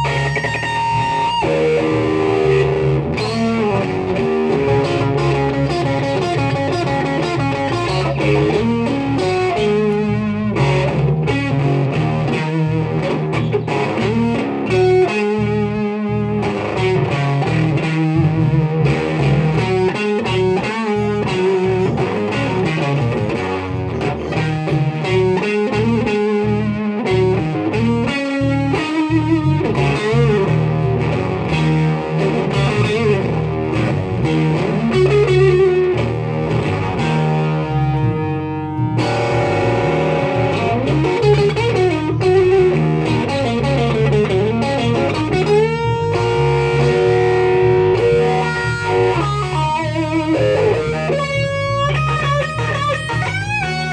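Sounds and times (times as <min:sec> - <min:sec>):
electric bass line: 0:00.0 - 0:53.9
electric guitar lead: 0:00.0 - 0:53.9.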